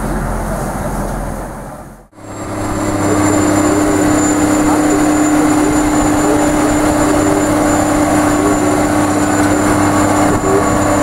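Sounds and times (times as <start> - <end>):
tractor diesel engine droning: 0.0 - 11.0.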